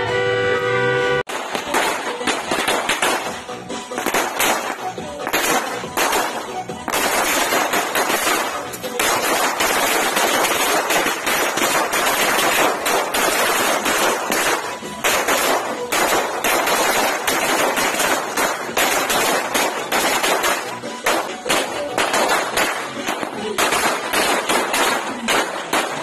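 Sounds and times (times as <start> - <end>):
firecrackers exploding: 1.3 - 26.0.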